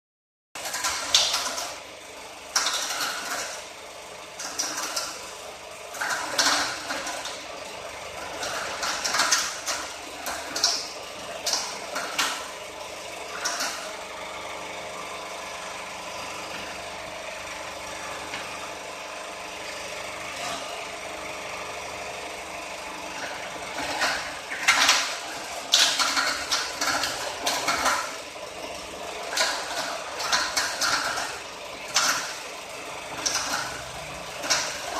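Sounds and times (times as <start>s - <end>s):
machine motor humming: 0.6s - 34.9s.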